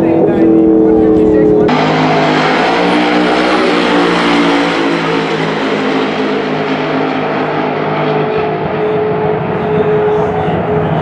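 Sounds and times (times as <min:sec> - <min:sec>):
drag car engines droning: 0:00.0 - 0:11.0.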